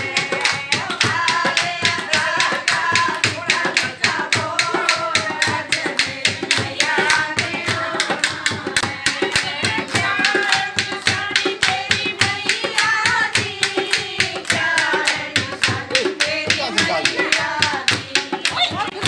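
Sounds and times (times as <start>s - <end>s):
hand claps: 0.0s - 19.0s
women singing devotional song: 0.0s - 19.0s.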